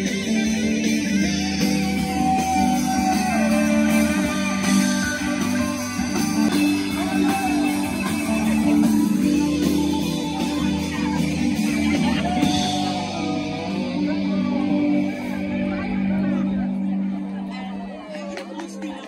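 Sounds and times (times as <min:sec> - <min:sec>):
bass guitar: 0:00.0 - 0:19.0
electric guitars: 0:00.0 - 0:19.0.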